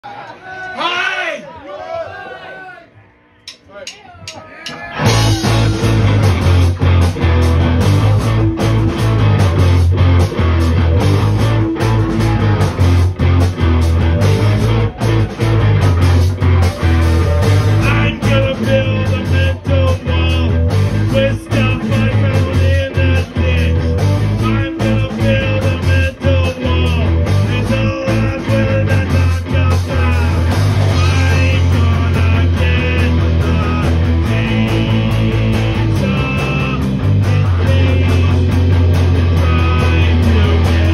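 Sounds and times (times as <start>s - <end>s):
bass guitar: 3.4s - 40.9s
drum kit: 3.5s - 40.9s
electric guitars: 4.7s - 40.9s.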